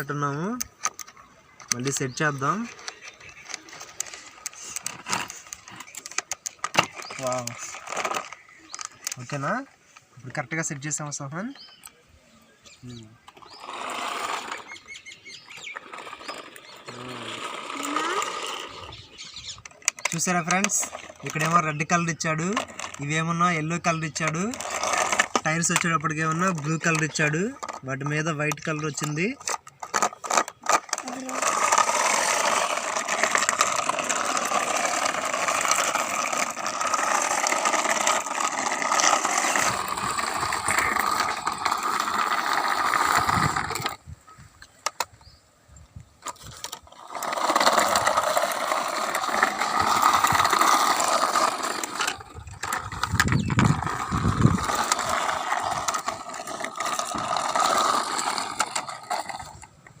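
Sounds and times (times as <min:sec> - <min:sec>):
toy gears whirring and clicking: 0:00.8 - 0:09.4, 0:12.9 - 0:44.0, 0:46.2 - 0:59.7.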